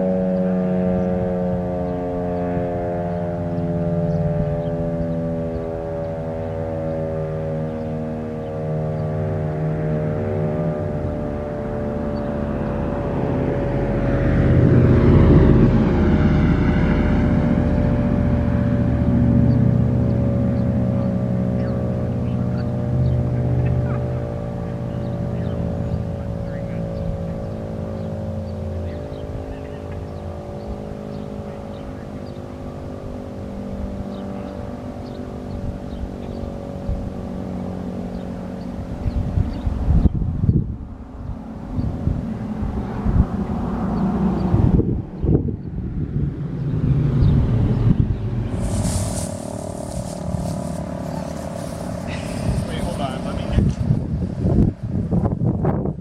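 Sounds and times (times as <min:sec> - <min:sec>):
warning siren steady tone: 0:00.0 - 0:45.8
steady engine-like hum: 0:00.0 - 0:56.0
vehicle passing close by: 0:00.0 - 0:56.0
wind buffeting microphone: 0:00.0 - 0:56.0.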